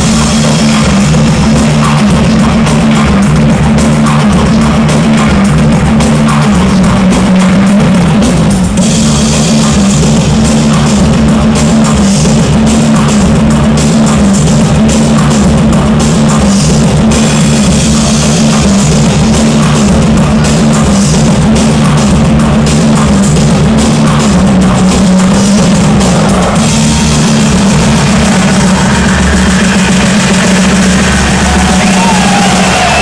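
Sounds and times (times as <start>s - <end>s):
loud rock music: 0.0s - 33.0s.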